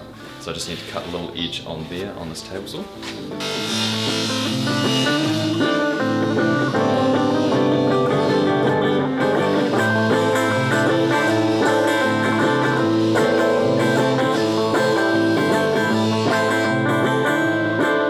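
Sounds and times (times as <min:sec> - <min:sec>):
bluesy electric guitar music: 0:02.8 - 0:18.0.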